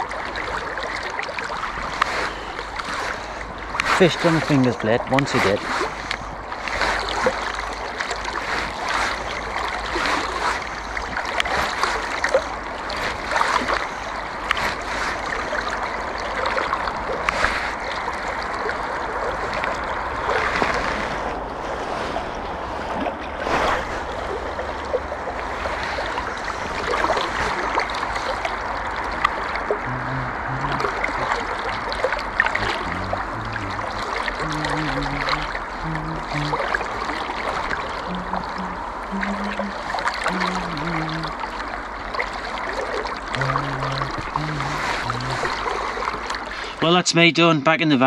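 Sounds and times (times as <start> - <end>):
small water splashes: 0.0 - 46.8
river water rushing: 0.0 - 47.0.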